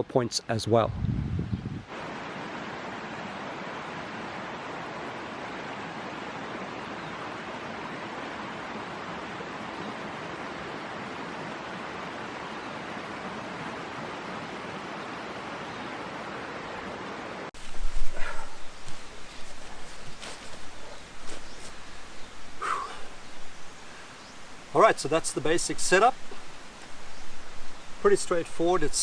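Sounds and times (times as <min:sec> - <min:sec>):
mountain stream rushing: 0:01.9 - 0:29.0.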